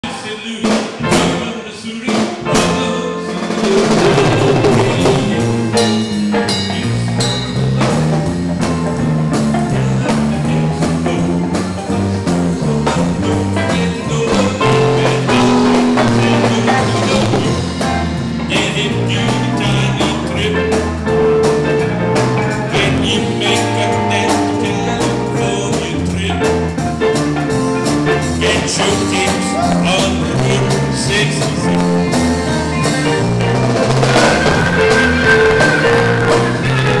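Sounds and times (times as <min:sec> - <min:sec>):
bass line: 0:00.0 - 0:37.0
drum kit: 0:00.0 - 0:37.0.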